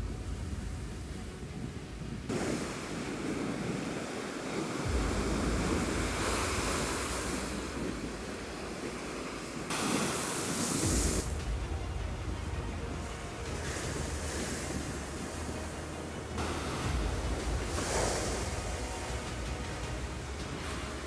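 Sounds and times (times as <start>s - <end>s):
waves breaking: 0.0s - 21.0s
wind buffeting microphone: 0.0s - 21.0s.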